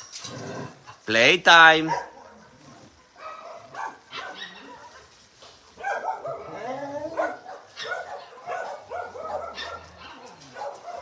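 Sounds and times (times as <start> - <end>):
dogs barking and yelping: 1.7 - 11.0.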